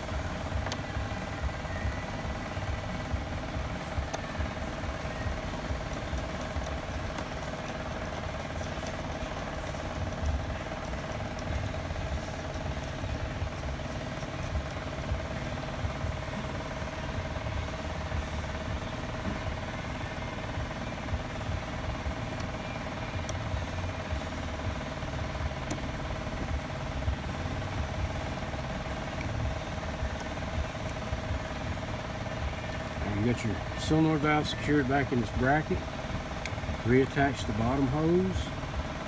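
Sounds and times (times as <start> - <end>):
mechanical hum: 0.0 - 39.0.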